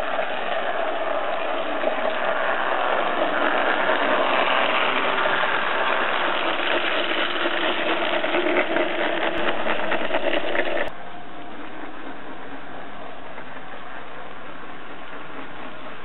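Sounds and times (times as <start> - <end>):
model train motor whirr: 0.0 - 16.0
wheels clicking over track: 0.0 - 16.0.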